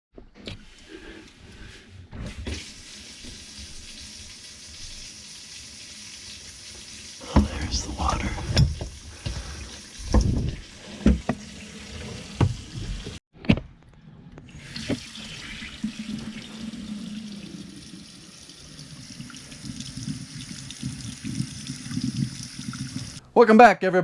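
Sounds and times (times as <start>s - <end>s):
faucet running water into sink: 2.4s - 13.2s, 14.5s - 23.2s.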